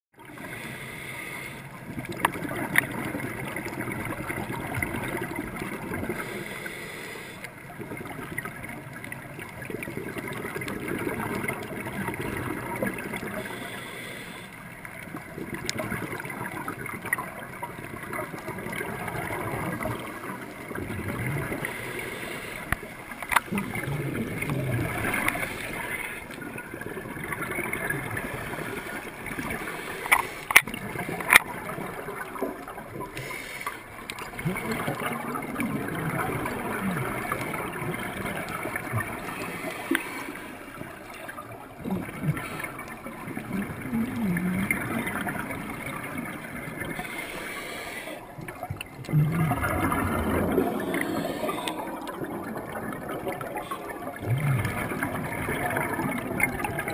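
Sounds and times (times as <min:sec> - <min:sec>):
scuba bubbles gurgling: 0:00.1 - 0:56.9
muffled underwater rush: 0:00.2 - 0:56.9.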